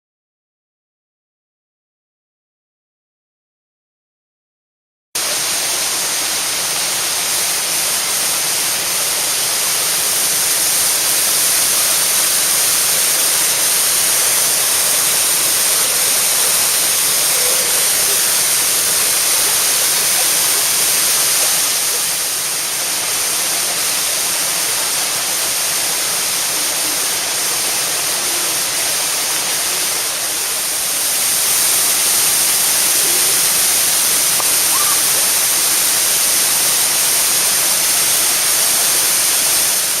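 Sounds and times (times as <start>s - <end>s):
waterfall rushing: 5.2s - 40.0s.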